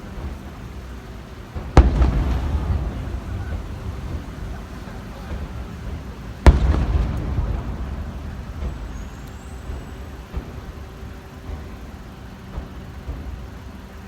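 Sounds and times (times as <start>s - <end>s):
low rolling rumble: 0.0s - 14.0s
low rumble of fireworks display: 0.0s - 14.0s
firework shell bang: 1.6s - 13.4s.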